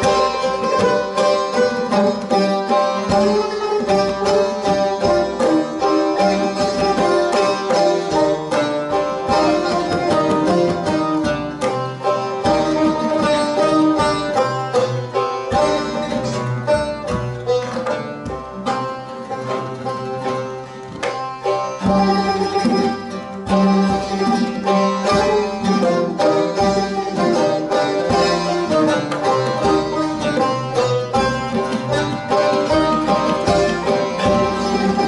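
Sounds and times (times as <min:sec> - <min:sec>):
plucked string ensemble: 0:00.0 - 0:35.0.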